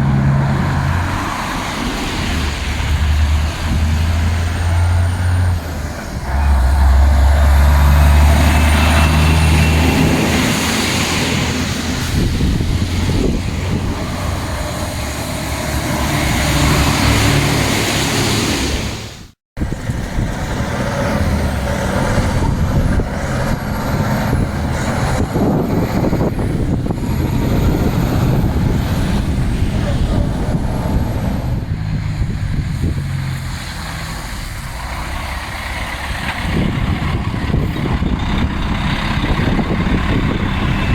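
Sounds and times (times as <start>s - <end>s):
diesel truck engines: 0.0s - 40.9s
street traffic: 0.0s - 40.9s.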